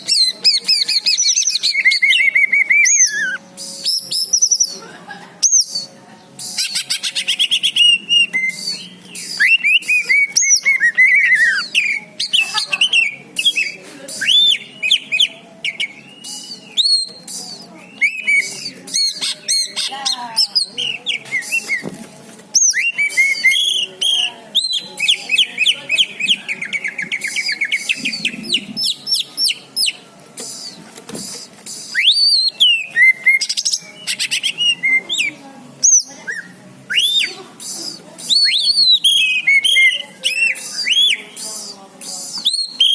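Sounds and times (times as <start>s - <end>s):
bird singing whistles and trills: 0.0s - 4.8s, 5.4s - 21.9s, 22.5s - 42.9s.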